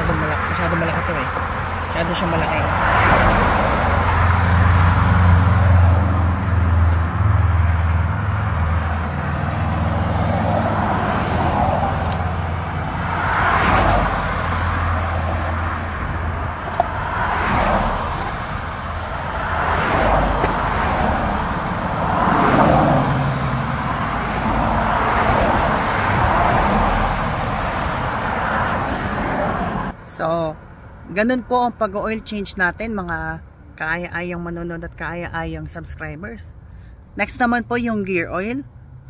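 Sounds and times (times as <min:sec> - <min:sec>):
cars passing: 0:00.0 - 0:39.0.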